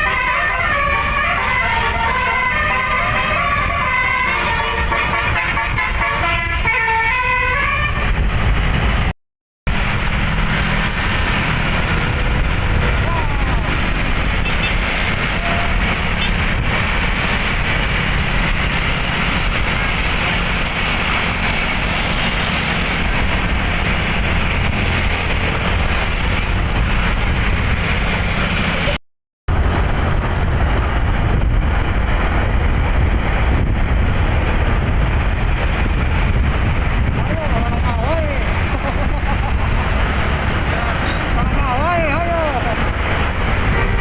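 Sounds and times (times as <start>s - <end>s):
vehicle rumbling on road: 0.0s - 44.0s.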